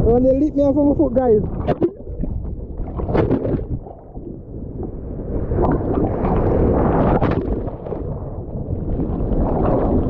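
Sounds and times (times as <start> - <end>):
ocean surf churning: 0.0 - 10.0
wind buffeting microphone: 0.0 - 10.0.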